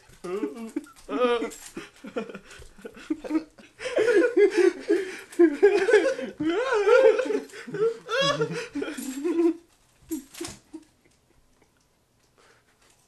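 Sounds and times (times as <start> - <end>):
boy laughing hard: 0.2 - 10.9.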